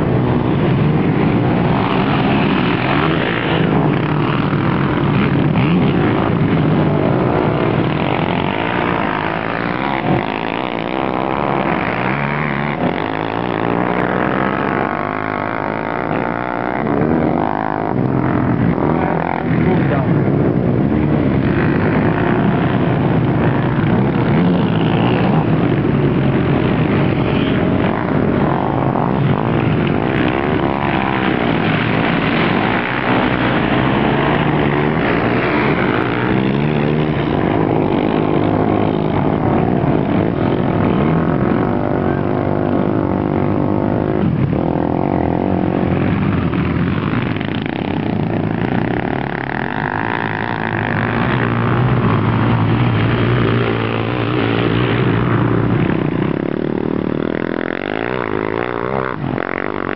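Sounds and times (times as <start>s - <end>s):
quad bike engines revving: 0.0s - 59.9s.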